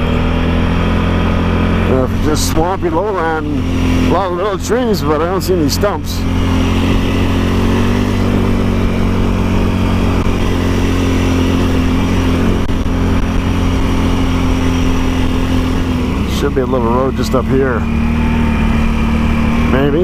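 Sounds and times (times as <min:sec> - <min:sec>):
atv engine droning: 0:00.0 - 0:20.0.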